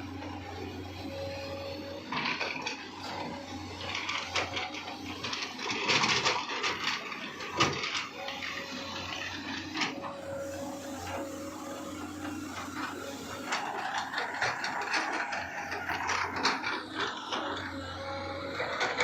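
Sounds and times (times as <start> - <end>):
excavator engine drone: 0.0 - 19.0.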